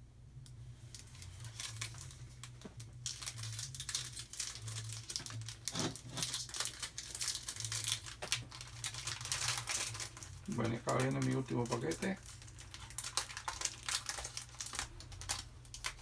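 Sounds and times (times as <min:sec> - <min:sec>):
foil wrapper crinkling: 0:00.9 - 0:16.0.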